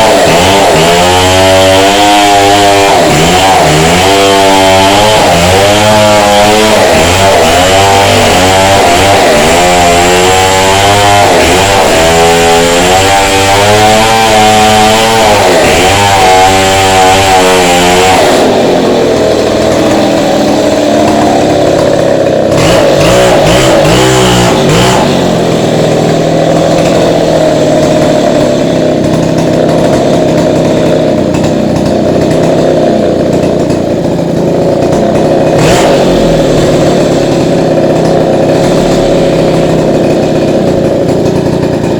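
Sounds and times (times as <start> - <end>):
chainsaw cutting into brick: 0.0 - 41.9.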